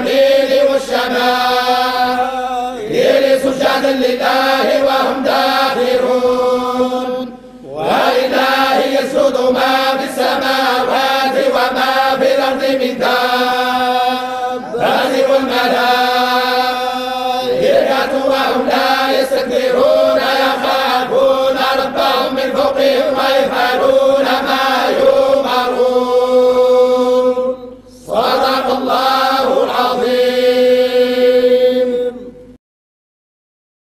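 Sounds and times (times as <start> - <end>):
men chanting in unison: 0.0 - 32.4.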